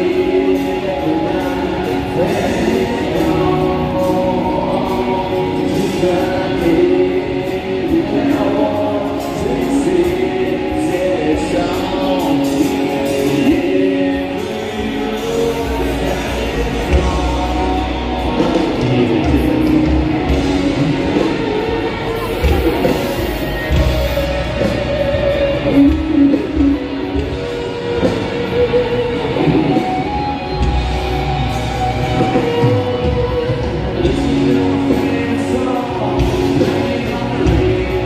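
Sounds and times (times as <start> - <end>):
rock band with singer: 0.0 - 38.0.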